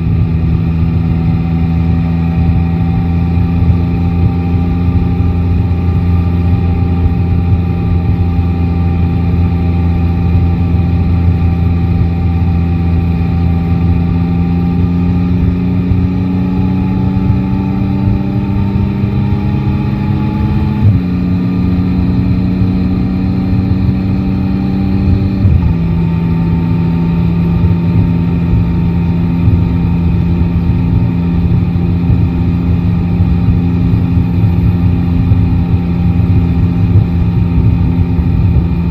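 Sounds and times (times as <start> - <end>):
motorcycle engine running: 0.0 - 38.9
road and wind rumble: 0.0 - 38.9.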